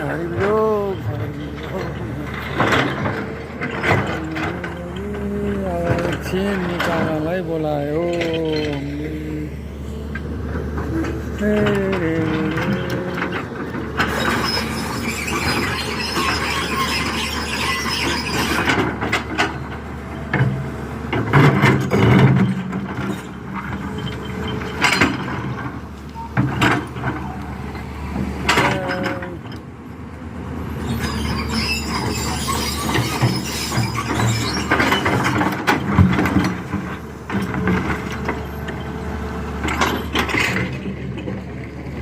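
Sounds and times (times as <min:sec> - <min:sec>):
metal squeals and clanks: 0:00.0 - 0:29.6, 0:30.6 - 0:41.4
excavator engine running: 0:00.0 - 0:42.0.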